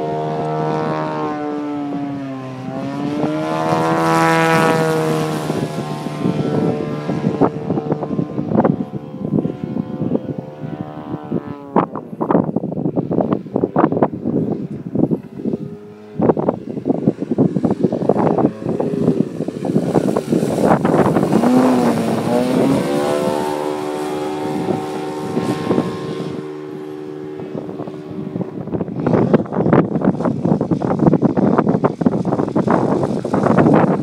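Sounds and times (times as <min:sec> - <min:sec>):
model airplane engine passing: 0:00.0 - 0:34.0
wind buffeting microphone: 0:00.0 - 0:34.0.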